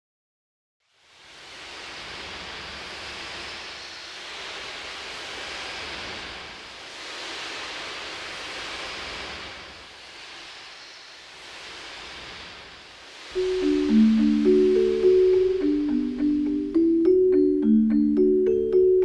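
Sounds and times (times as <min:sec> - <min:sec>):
rushing wash of noise: 0:01.3 - 0:19.0.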